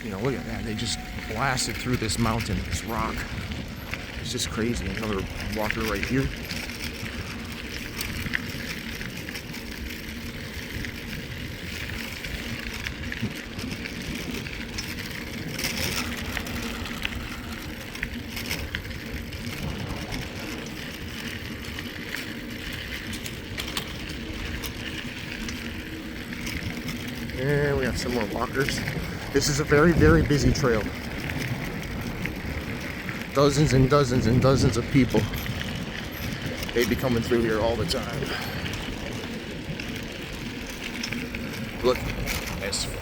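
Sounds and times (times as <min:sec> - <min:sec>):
bike clicks and rattles: 0:00.0 - 0:43.0
tyre and wind noise: 0:00.0 - 0:43.0.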